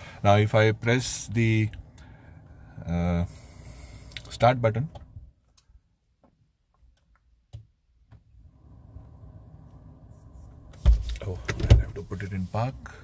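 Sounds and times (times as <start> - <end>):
low steady hum: 0.0 - 6.0, 8.0 - 13.0.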